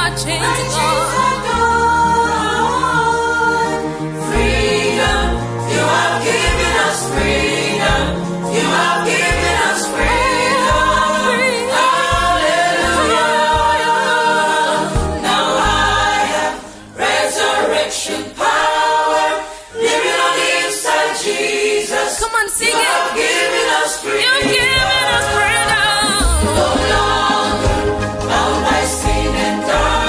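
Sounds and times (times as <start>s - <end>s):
choir singing gospel in harmony: 0.0s - 30.0s.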